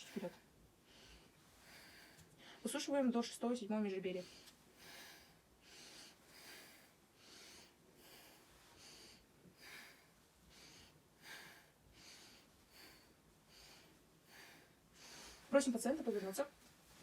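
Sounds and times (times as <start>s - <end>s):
person breathing deeply: 0.0s - 2.7s, 4.2s - 15.5s.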